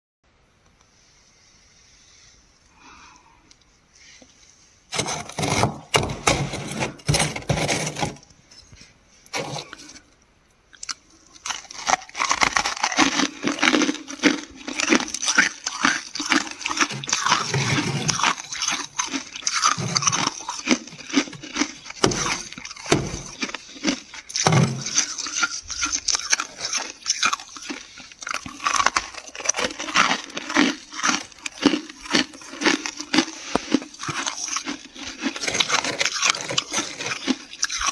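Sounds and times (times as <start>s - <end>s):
frost scraping in a freezer: 4.9s - 10.1s, 11.3s - 37.9s.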